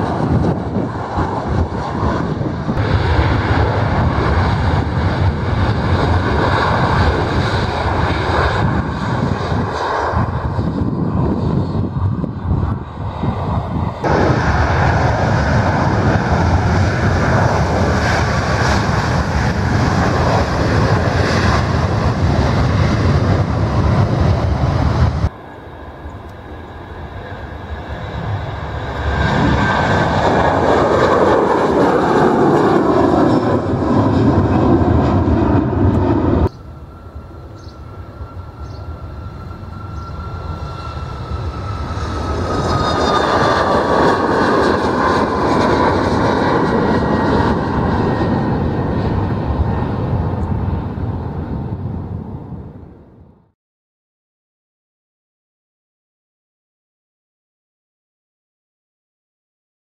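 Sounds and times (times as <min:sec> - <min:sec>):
jet engine whine: 0:00.0 - 0:53.6
jet engines rumbling: 0:00.0 - 0:53.6.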